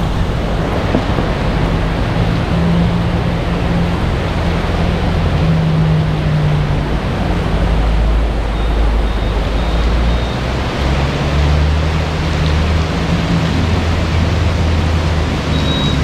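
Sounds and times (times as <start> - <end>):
car engine hum: 0.0 - 16.0
rain hiss: 0.0 - 16.0
wet tyre noise: 0.0 - 16.0.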